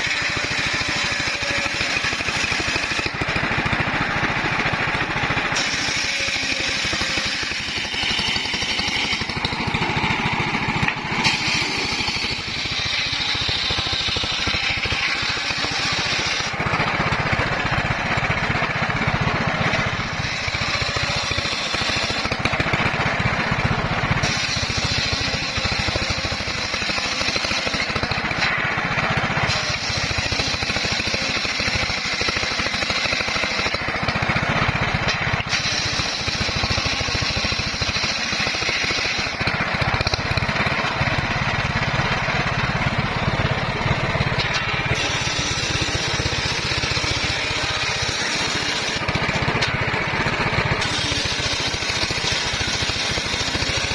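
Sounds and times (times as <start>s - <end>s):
bandsaw cutting wood: 0.0s - 53.9s.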